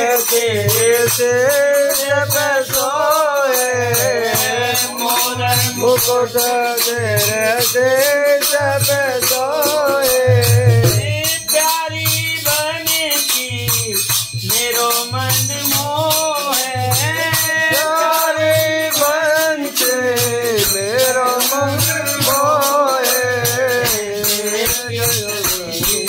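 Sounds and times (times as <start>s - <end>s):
rattling hand percussion: 0.0s - 26.0s.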